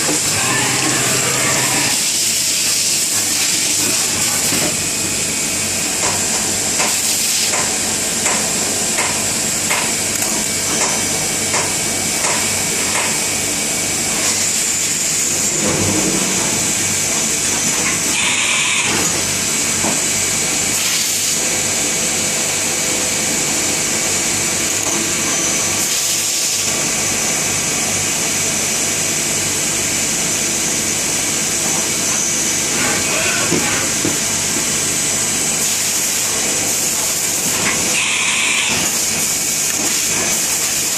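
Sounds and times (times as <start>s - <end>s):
machine tool whining and humming: 0.0s - 6.7s, 7.9s - 20.8s, 26.7s - 40.9s.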